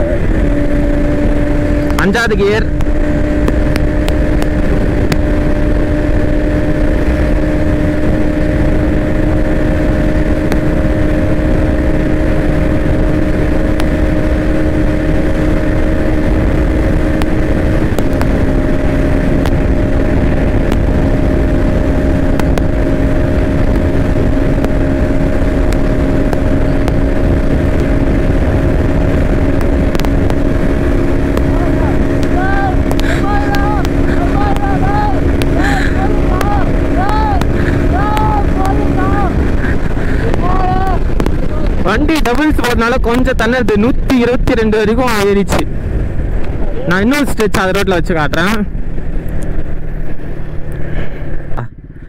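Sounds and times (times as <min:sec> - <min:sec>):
motorcycle engine running hard: 0:00.0 - 0:52.0
wind rushing over microphone: 0:00.0 - 0:52.0.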